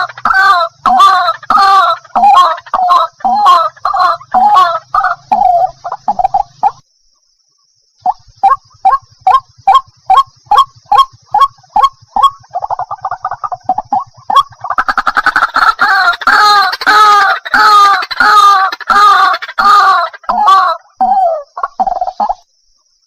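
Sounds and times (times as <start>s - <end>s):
water hen calling: 0.0s - 6.8s, 8.0s - 22.4s
harsh overlapping bird calls: 0.0s - 23.0s.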